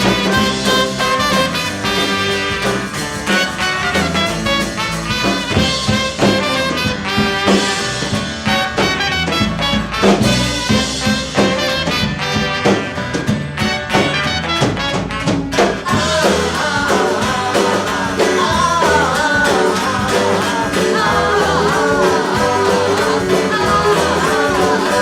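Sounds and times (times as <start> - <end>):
horns: 0.0 - 25.0
rock band playing live: 0.0 - 25.0.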